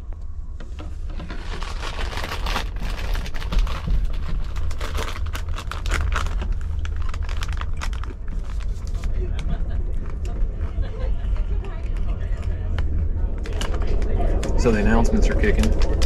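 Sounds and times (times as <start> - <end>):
crinkling and rustling handling: 0.1 - 16.0.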